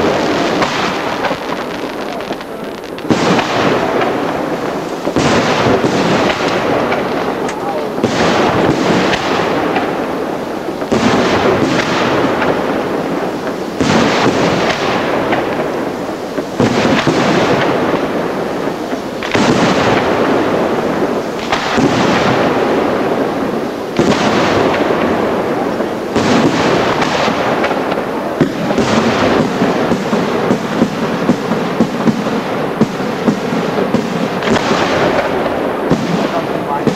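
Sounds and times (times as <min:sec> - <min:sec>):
firework shells bursting: 0:00.0 - 0:36.9.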